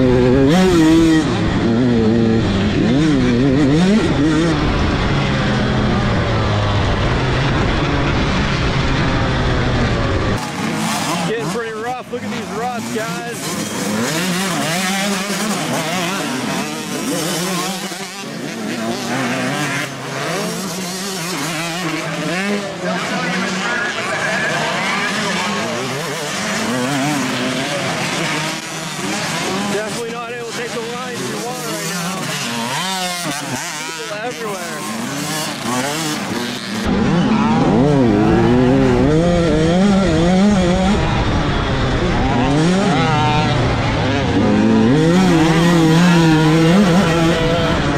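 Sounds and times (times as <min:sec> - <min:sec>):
motocross bikes revving: 0:00.0 - 0:47.9.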